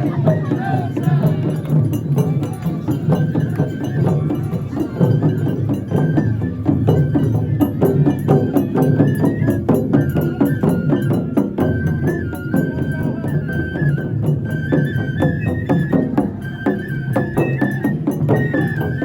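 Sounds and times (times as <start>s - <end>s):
drum and percussion strikes: 0.0s - 19.0s
high flute melody: 0.0s - 19.0s.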